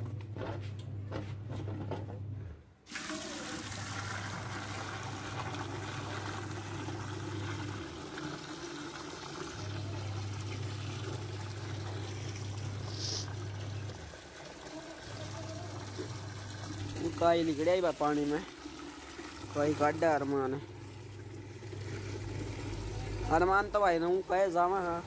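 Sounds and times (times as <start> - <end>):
water gushing into a steel bucket: 2.9 - 25.0.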